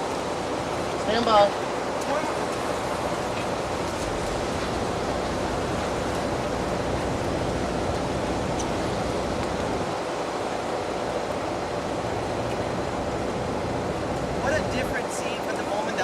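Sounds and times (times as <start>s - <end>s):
storm surf rushing: 0.0s - 16.0s
wind: 0.0s - 16.0s.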